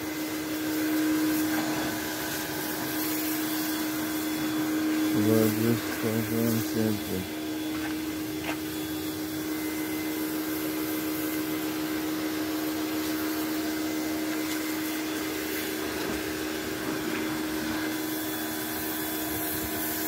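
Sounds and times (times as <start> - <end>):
motor droning: 0.0 - 20.0.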